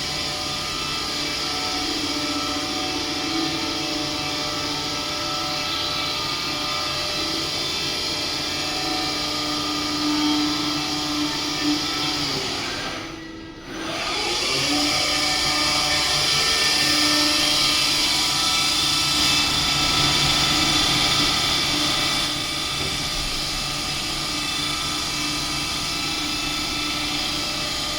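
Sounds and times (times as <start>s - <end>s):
lathe humming and whining: 0.0s - 27.9s.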